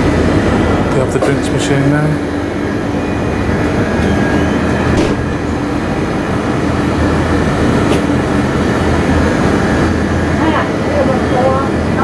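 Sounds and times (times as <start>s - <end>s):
machinery rumbling: 0.0s - 12.0s.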